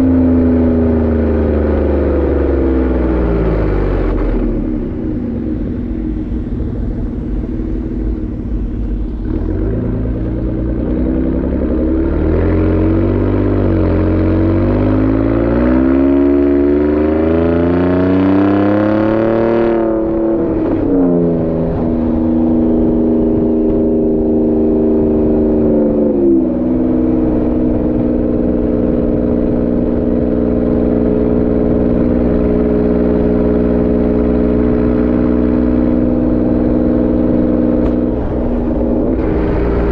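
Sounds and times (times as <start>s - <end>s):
truck exhaust accelerating: 0.0s - 39.9s.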